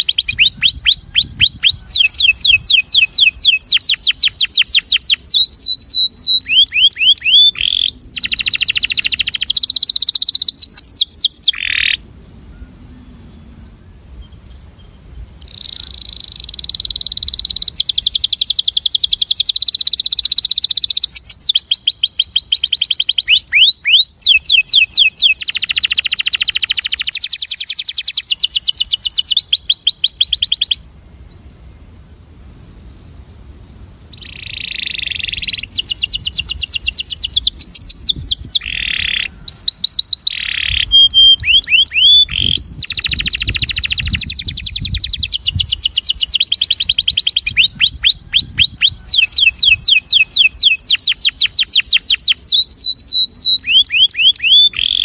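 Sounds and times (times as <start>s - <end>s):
canary singing trills: 0.0s - 13.5s, 14.2s - 30.8s, 34.1s - 55.0s.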